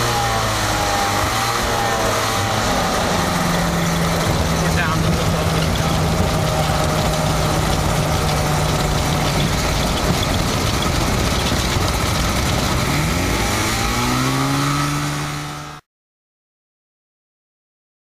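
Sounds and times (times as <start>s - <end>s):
light aircraft engine and propeller: 0.0s - 15.8s.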